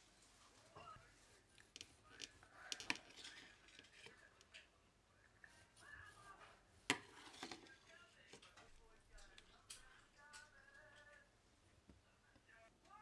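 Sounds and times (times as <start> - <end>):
faint voices: 0.0 - 13.0
faint clicks and taps: 0.3 - 4.8, 5.8 - 13.0.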